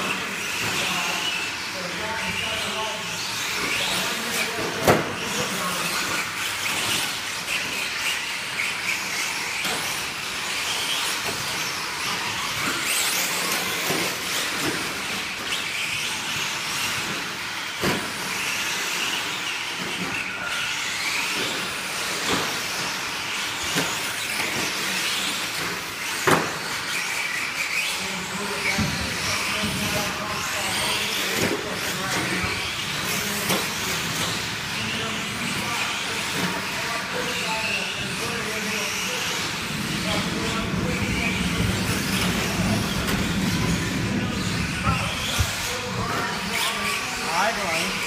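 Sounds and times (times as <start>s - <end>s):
rc truck motors whining: 0.0s - 48.0s.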